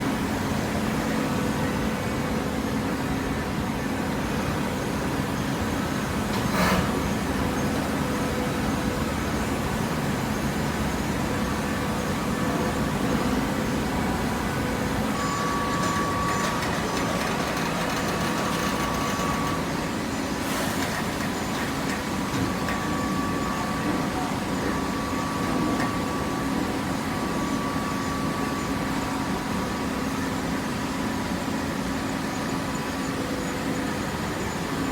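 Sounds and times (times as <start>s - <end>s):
baling press machine hum: 0.0s - 34.9s
high machine whine: 0.0s - 34.9s.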